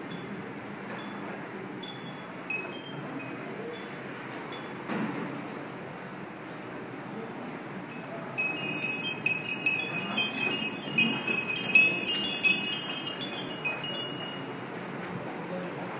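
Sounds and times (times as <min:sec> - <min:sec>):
glass wind chimes tinkling: 0:00.0 - 0:06.5, 0:07.9 - 0:15.1.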